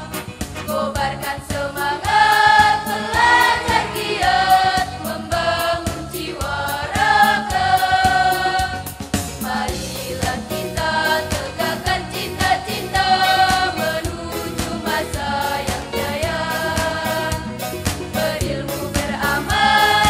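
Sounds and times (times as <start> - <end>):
children's choir singing: 0.7 - 20.0.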